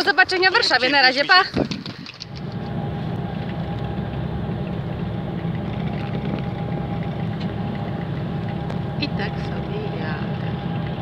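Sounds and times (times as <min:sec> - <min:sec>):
bus engine drone: 0:00.0 - 0:11.0
tyre road noise: 0:00.0 - 0:11.0
faint steady whine: 0:02.0 - 0:11.0.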